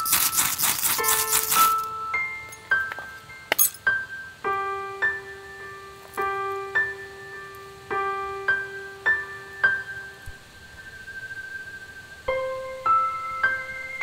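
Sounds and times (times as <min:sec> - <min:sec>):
slow keyboard melody: 0:00.0 - 0:14.0.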